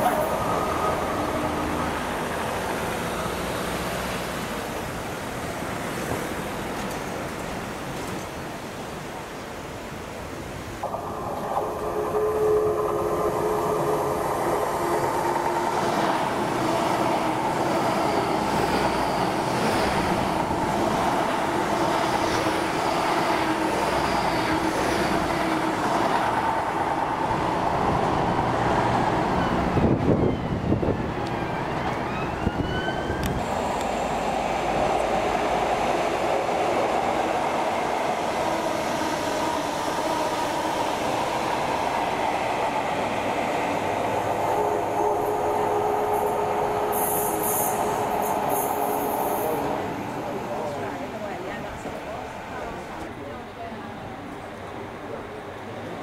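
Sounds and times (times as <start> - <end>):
diesel train rumbling: 0.0 - 56.0.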